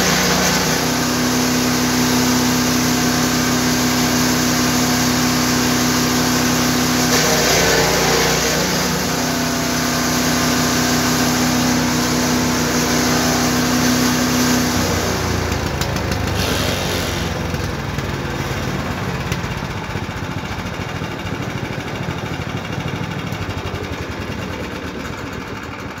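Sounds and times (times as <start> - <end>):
wood chipper engine running: 0.0 - 26.0.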